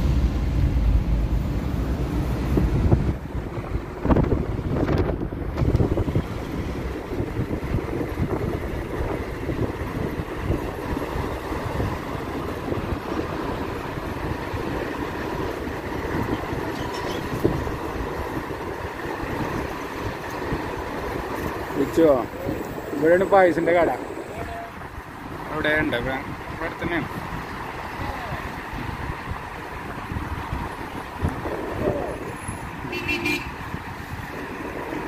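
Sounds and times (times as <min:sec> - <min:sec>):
tyres rumbling on asphalt: 0:00.0 - 0:35.0
wind: 0:00.0 - 0:35.0.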